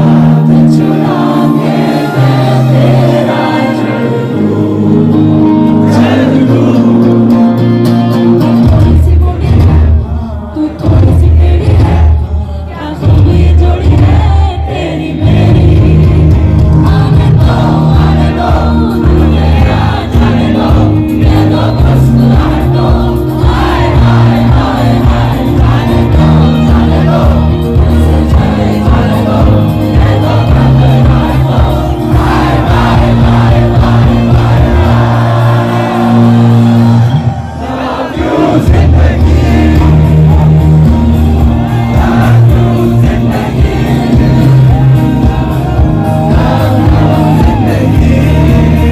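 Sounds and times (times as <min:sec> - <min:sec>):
crowd noise: 0:00.0 - 0:48.9
live band with heavy bass: 0:00.0 - 0:48.9
person singing: 0:00.0 - 0:48.9.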